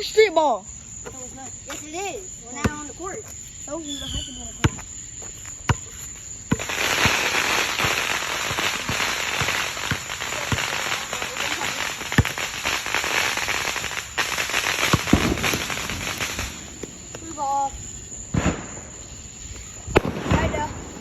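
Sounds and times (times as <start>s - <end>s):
fireworks bangs: 1.1s - 21.0s
fireworks crackling and popping: 1.1s - 21.0s.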